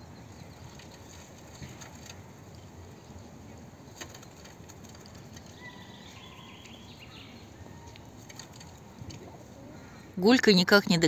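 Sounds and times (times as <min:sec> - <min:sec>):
distant bird chirps: 0:00.0 - 0:10.2
low steady background hum: 0:00.0 - 0:11.0.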